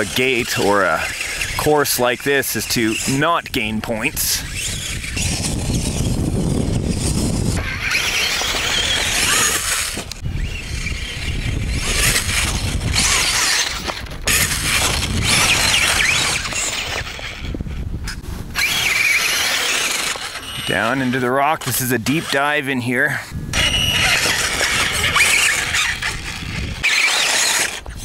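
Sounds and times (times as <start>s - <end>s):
rc car motor whining: 0.0s - 22.6s, 23.5s - 28.0s.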